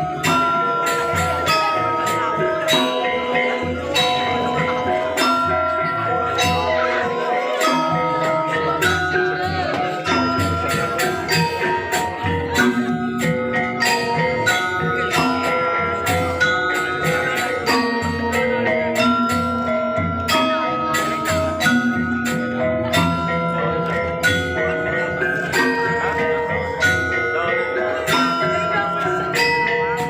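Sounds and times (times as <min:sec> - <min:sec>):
gamelan metallophones playing: 0:00.0 - 0:30.0.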